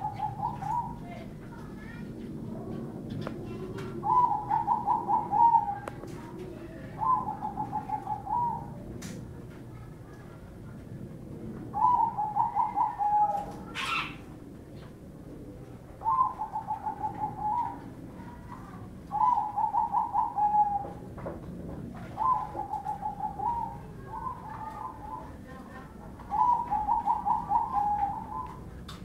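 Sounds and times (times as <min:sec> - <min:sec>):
doves cooing: 0:00.0 - 0:29.0.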